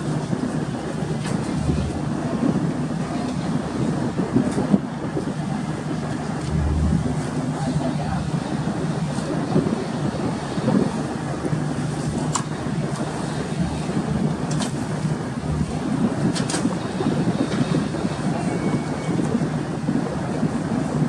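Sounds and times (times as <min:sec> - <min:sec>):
ship engines humming: 0:00.0 - 0:20.3
sea noise: 0:00.0 - 0:21.0
wind: 0:00.0 - 0:21.0.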